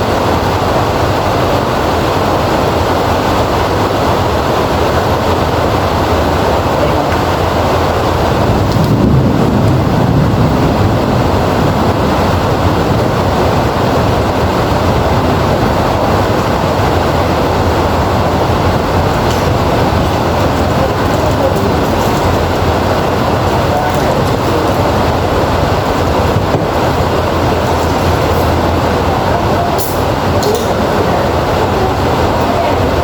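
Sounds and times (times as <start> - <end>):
heavy rain falling: 0.0 - 33.0
low rumble of thunder: 0.0 - 33.0.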